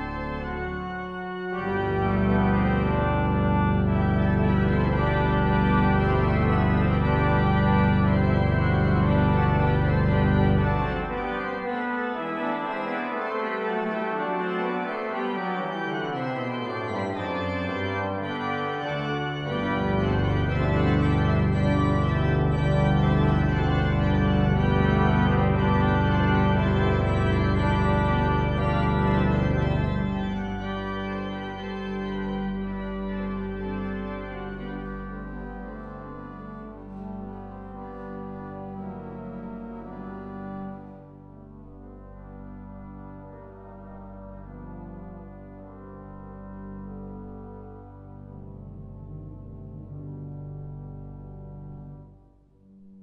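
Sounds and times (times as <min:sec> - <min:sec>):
pipe organ chords: 0:00.0 - 0:52.4.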